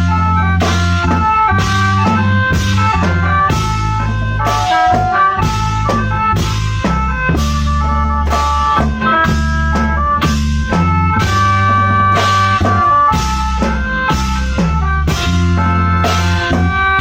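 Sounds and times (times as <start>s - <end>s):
drum kit beat: 0.0s - 17.0s
held bass notes: 0.0s - 17.0s
sustained melodic lines: 0.0s - 17.0s.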